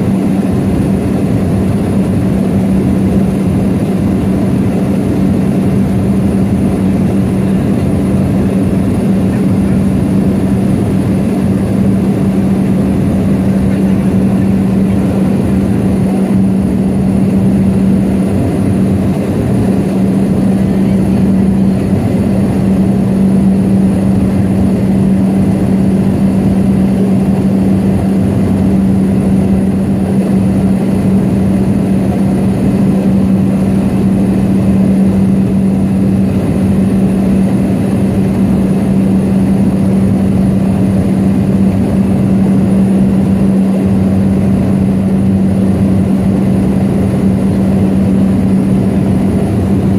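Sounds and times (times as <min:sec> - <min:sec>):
propeller plane engine drone: 0:00.0 - 0:49.9.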